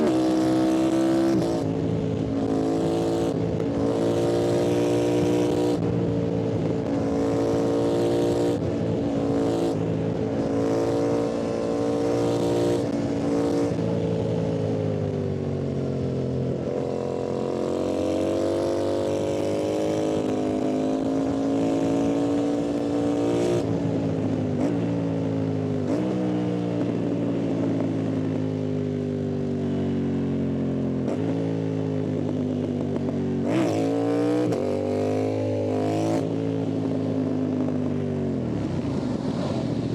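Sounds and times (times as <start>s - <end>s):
motorcycle engine revving: 0.0s - 28.4s, 30.5s - 39.9s.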